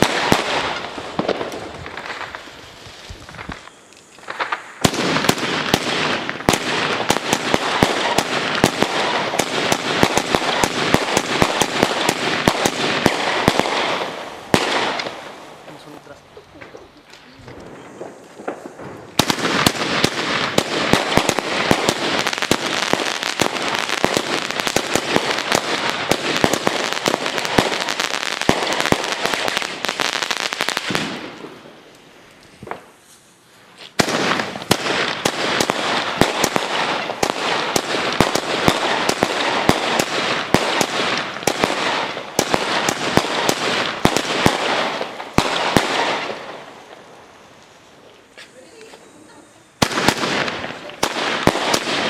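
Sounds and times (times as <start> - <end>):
firework cakes crackling pops: 0.0 - 52.0.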